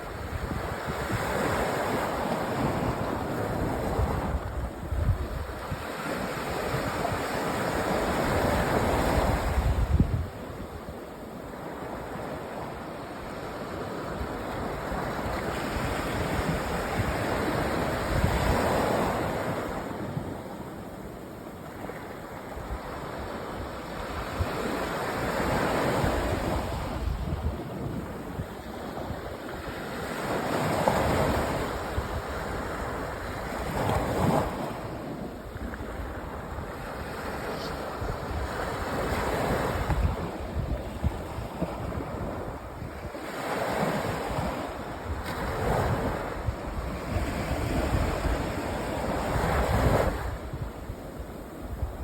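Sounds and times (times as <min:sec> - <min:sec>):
sea waves breaking on beach: 0:00.0 - 0:52.0.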